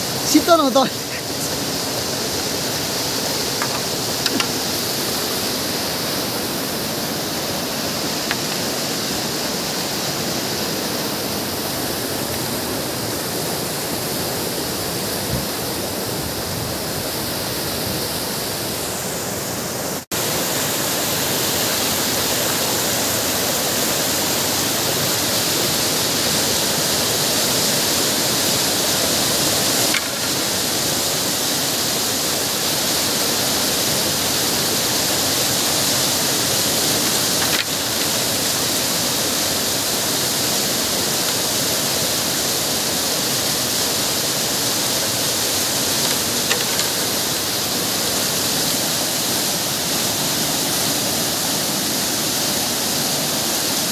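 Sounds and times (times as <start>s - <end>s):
river rushing over boulders: 0.0s - 53.9s.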